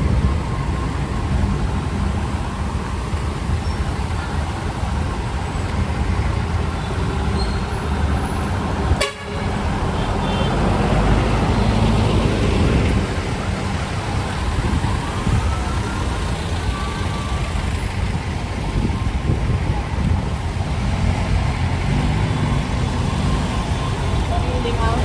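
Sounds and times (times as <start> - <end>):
vehicle engines running: 0.0 - 25.0.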